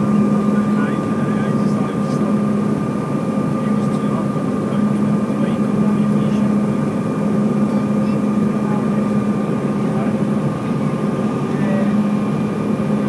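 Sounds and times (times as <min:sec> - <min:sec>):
airliner engines droning: 0:00.0 - 0:13.0.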